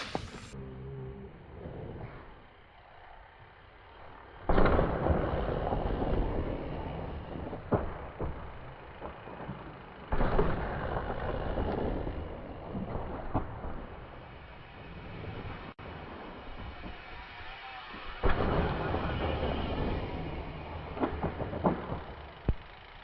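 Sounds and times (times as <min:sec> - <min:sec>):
bike tyre rumble: 0:00.0 - 0:23.0.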